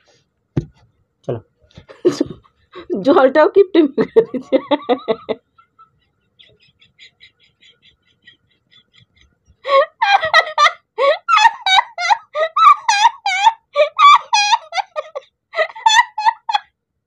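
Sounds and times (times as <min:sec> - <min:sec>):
woman laughing loudly: 0:01.9 - 0:03.0, 0:03.8 - 0:16.7.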